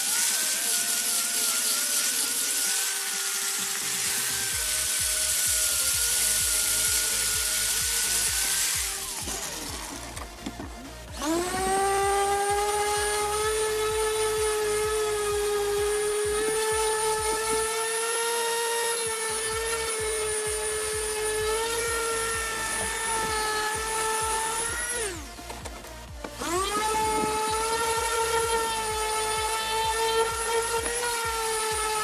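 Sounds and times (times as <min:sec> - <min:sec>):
power tool motor whine: 0:00.0 - 0:32.0.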